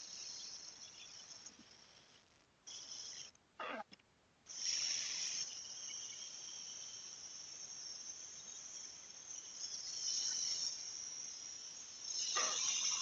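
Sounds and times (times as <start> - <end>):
insects chirring: 0.0 - 3.8, 4.5 - 13.0.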